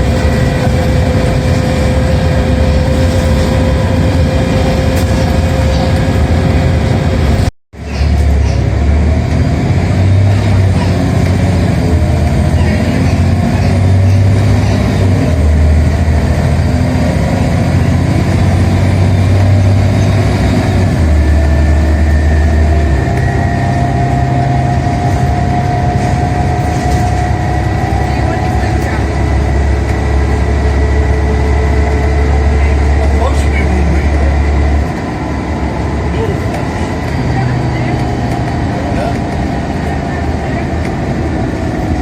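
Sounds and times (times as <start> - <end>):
bus diesel engine under load: 0.0 - 42.0.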